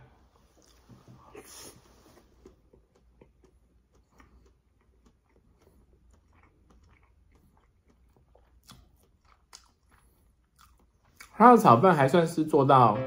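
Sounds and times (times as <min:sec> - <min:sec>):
faint chewing mouth clicks: 0:00.6 - 0:11.4.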